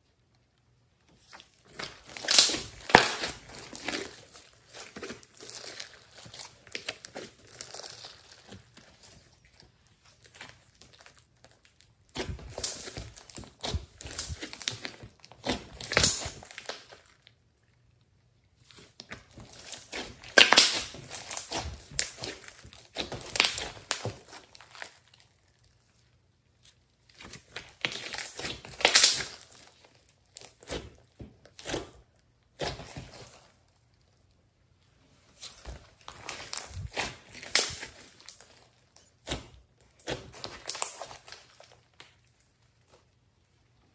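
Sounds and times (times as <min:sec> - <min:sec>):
slime crackling and popping: 0:01.2 - 0:17.4, 0:18.6 - 0:34.4, 0:35.4 - 0:43.9.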